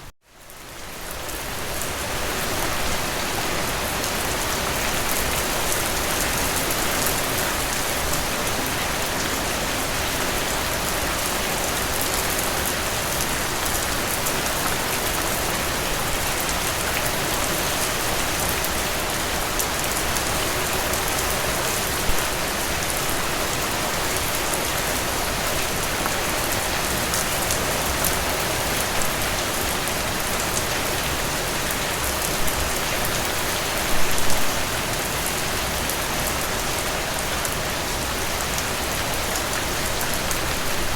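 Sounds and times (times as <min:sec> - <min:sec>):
steady rain pattering: 0:00.3 - 0:40.9.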